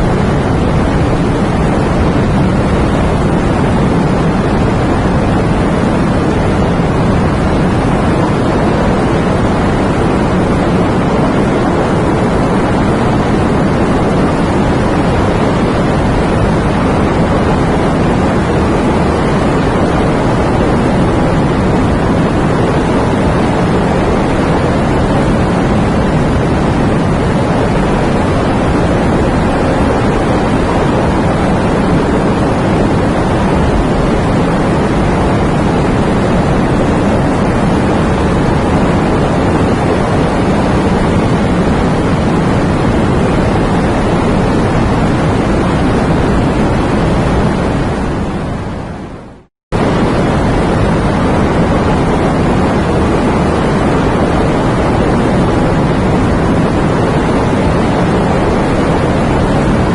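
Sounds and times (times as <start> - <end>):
steady rain: 0.0 - 49.0.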